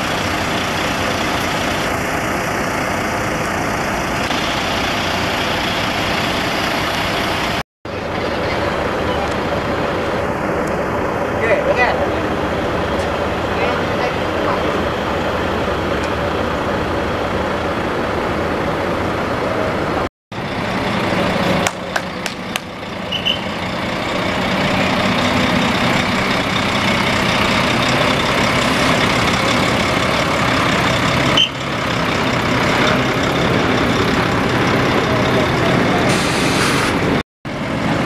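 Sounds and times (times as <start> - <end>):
brakes squeaking: 0.0 - 37.2
lorry diesel engine running: 0.0 - 38.0.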